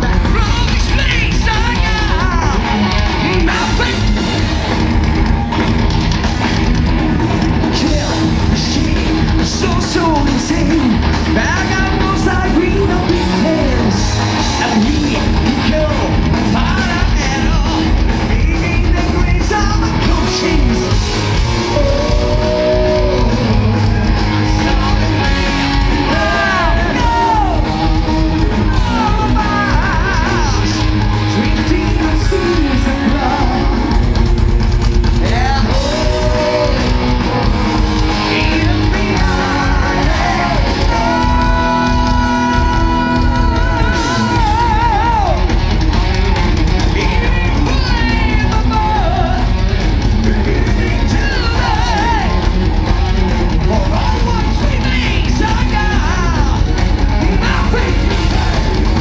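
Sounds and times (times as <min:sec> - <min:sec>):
male lead vocals: 0:00.0 - 0:05.6, 0:06.3 - 0:59.0
bass guitar: 0:00.0 - 0:59.0
distorted electric guitars: 0:00.0 - 0:59.0
drum kit: 0:00.0 - 0:59.0.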